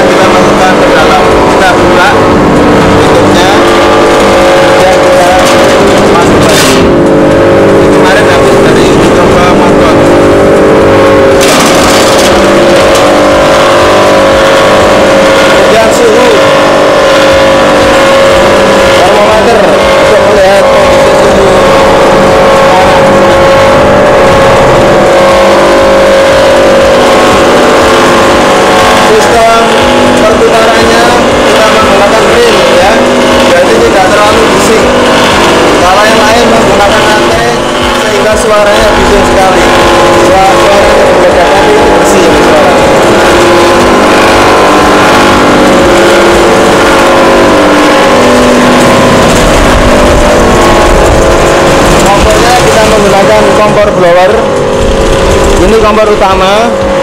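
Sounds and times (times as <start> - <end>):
rotary dryer machine running: 0.0 - 57.0.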